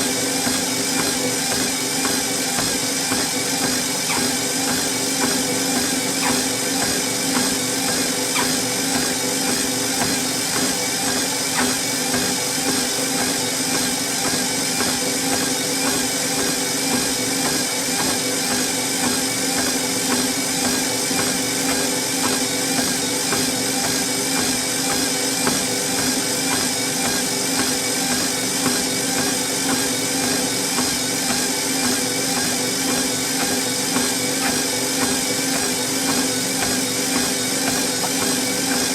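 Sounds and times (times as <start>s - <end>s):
footsteps on treadmill belt: 0.0s - 38.9s
treadmill belt hiss: 0.0s - 38.9s
treadmill motor hum and whine: 0.0s - 38.9s.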